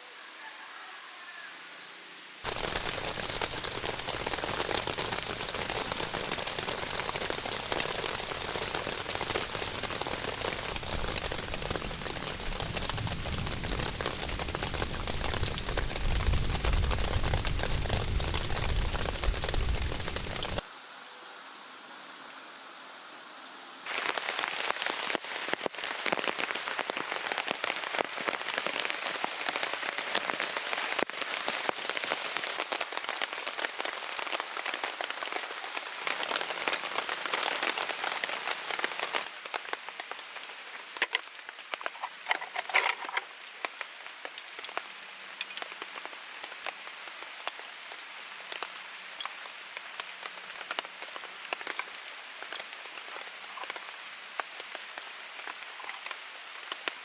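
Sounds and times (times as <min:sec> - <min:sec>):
raindrops hitting a surface: 0:02.4 - 0:20.8, 0:23.4 - 0:57.0.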